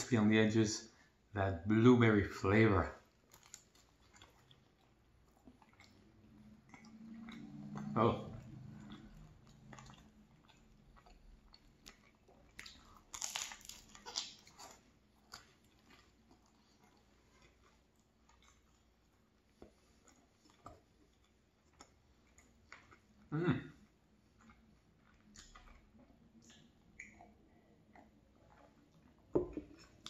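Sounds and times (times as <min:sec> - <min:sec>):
person chewing crunchy pastry: 0:03.0 - 0:30.0.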